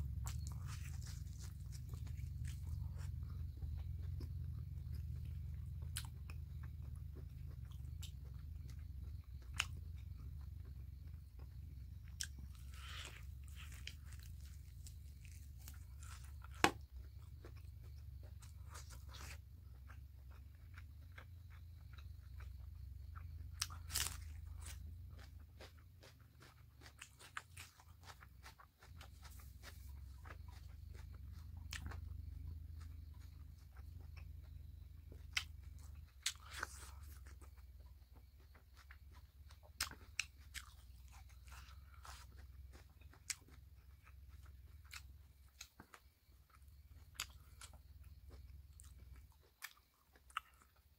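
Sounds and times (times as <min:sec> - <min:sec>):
mouth clicks and crunches: 0:00.0 - 0:09.8, 0:11.0 - 0:22.6, 0:23.2 - 0:50.9
steady low hum: 0:00.0 - 0:50.9
wet chewing: 0:00.0 - 0:50.9.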